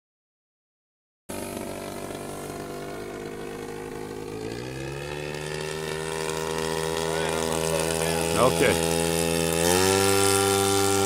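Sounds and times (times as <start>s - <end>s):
model plane propeller drone: 1.3s - 11.0s.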